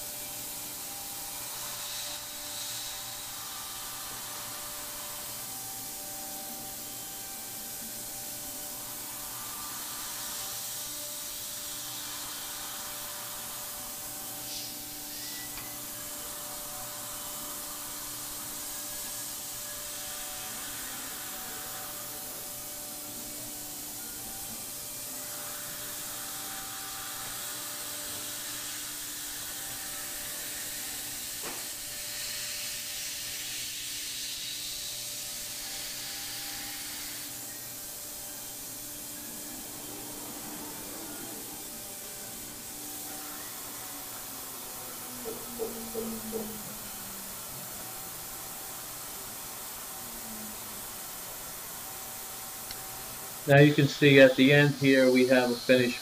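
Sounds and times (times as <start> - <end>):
cnc router hissing and humming: 0.0 - 56.0.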